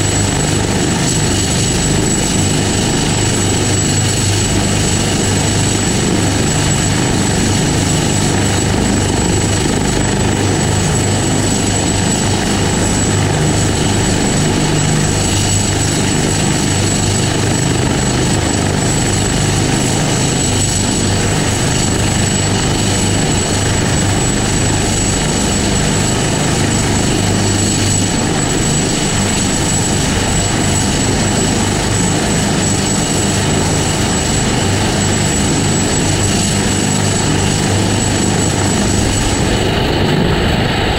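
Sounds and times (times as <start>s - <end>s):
helicopter rotor and engine: 0.0s - 40.9s
high steady whine: 0.0s - 40.9s.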